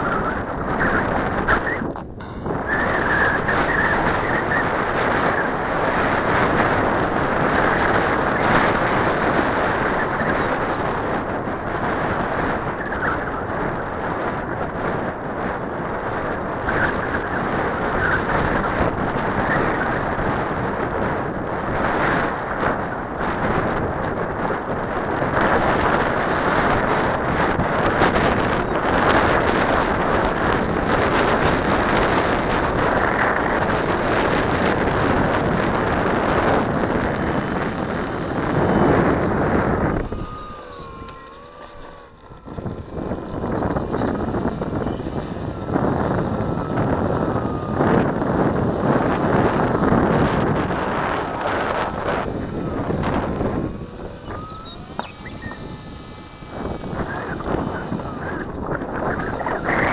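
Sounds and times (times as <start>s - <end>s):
electric motor and propeller whine: 0.0s - 59.9s
strong gusty wind on microphone: 0.0s - 59.9s.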